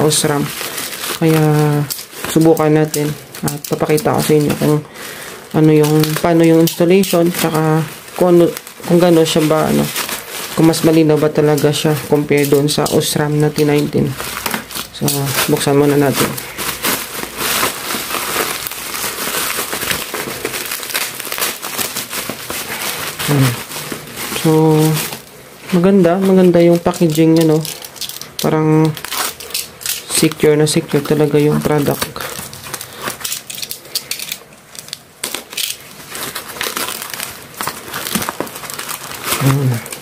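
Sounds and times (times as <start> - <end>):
plastic bag and bubble wrap crinkling: 0.0 - 40.0.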